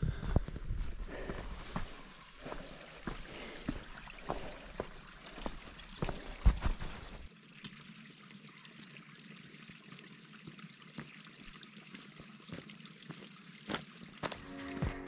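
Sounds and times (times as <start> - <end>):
faint water drips: 1.1 - 14.4
stream trickling: 1.3 - 15.0.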